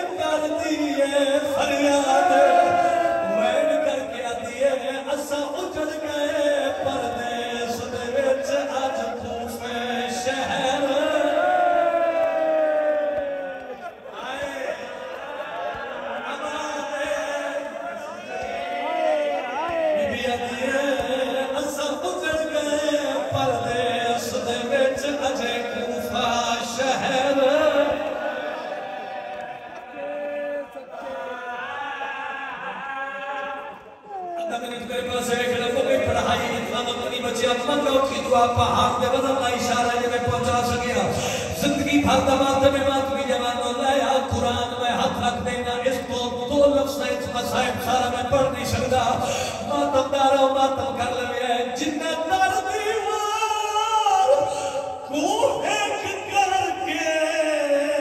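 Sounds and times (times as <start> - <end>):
man chanting mournful lament: 0.0 - 28.9, 29.9 - 58.0.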